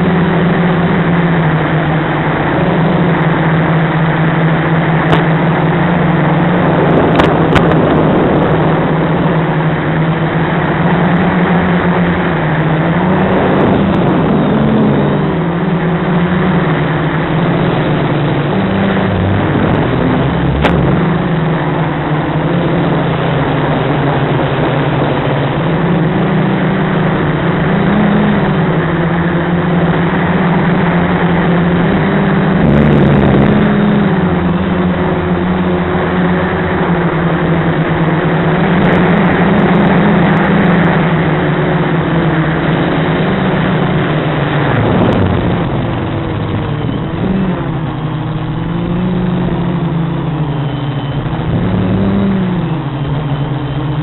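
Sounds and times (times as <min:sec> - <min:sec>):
quadcopter propellers droning: 0:00.0 - 0:54.0.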